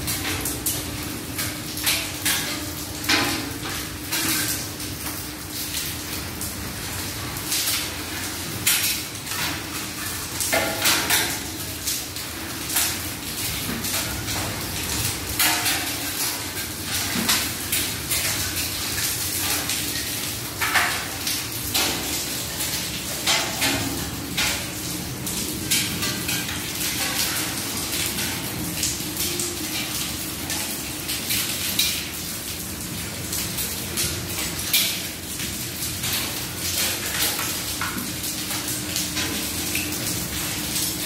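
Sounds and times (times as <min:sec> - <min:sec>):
steady hiss of rain: 0:00.0 - 0:41.0.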